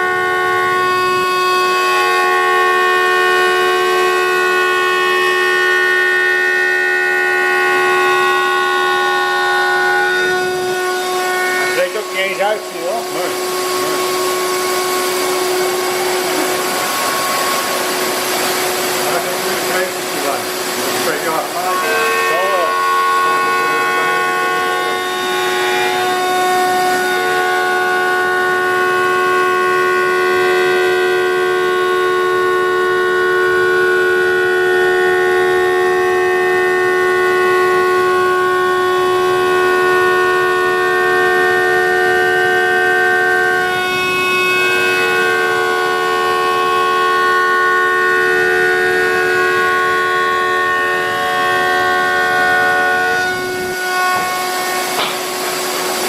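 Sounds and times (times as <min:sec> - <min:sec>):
router spindle high whine: 0:00.0 - 0:56.0.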